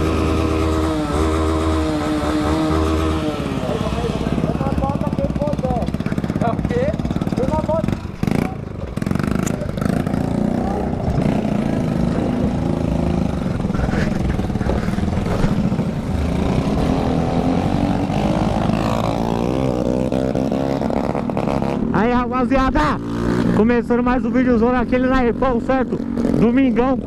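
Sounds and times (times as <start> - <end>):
scooter engine running loud: 0.0 - 27.0.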